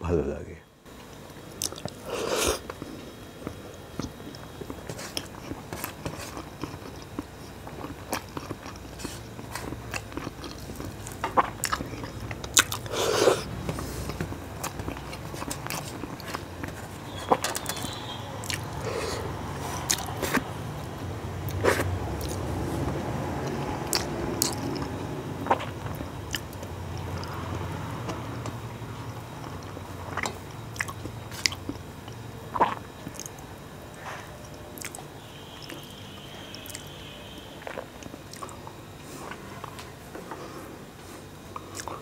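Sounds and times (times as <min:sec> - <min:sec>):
person chewing food: 0:01.5 - 0:37.0, 0:37.6 - 0:40.4, 0:41.0 - 0:42.0.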